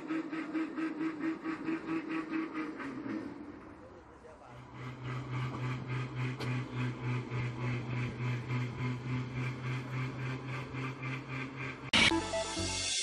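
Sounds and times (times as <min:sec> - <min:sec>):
rail speeder mechanical hum: 0:00.0 - 0:13.0.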